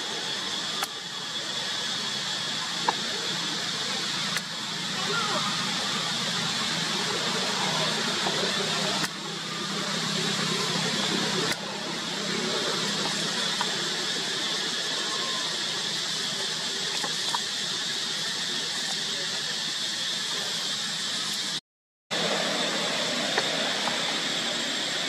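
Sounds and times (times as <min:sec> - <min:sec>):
high outdoor insect hiss: 0:00.0 - 0:21.6.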